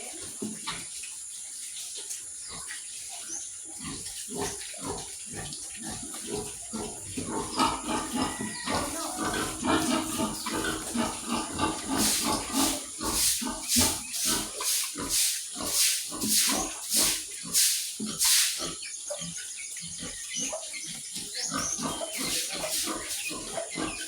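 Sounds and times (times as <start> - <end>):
pigs grunting: 2.0 - 24.0.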